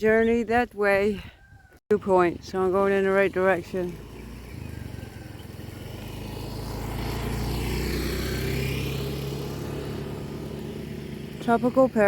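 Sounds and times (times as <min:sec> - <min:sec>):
rushing wind or road noise: 0:00.0 - 0:12.0
motorbike engine running: 0:02.0 - 0:12.0.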